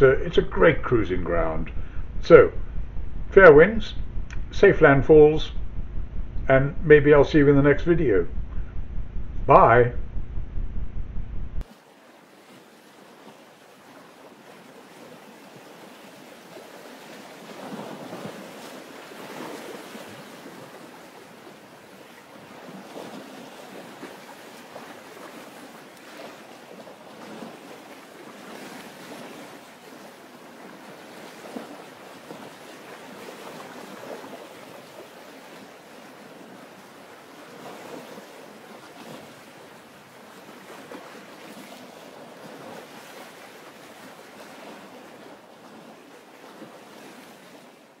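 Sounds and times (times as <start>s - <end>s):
sea rushing: 0.0s - 10.0s, 11.6s - 48.0s
wind: 0.0s - 48.0s.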